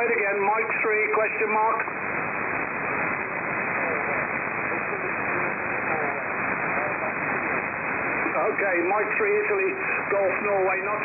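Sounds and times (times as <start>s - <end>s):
radio hiss and static: 0.0s - 11.0s.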